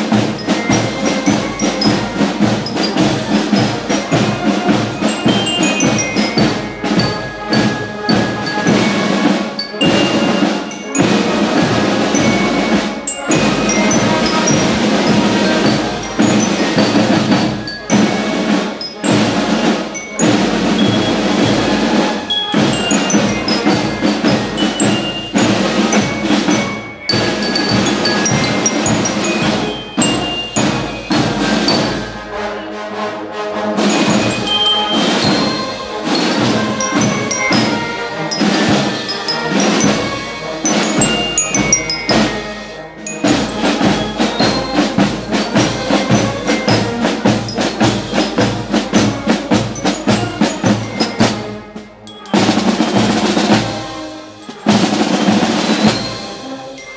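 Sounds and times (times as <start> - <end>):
glockenspiel runs: 0.0 - 32.5, 33.8 - 56.9
marching band playing: 0.0 - 56.9
snare drums: 0.0 - 56.9.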